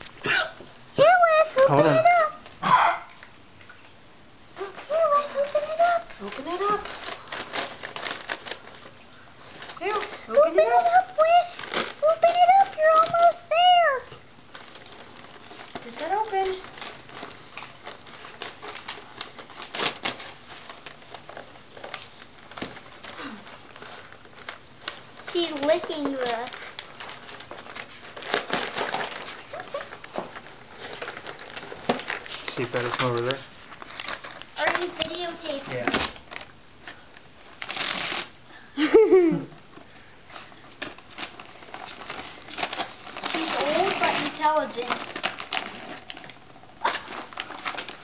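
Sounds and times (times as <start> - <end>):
wrapping paper tearing: 1.2 - 3.0, 4.6 - 39.2, 40.0 - 48.0.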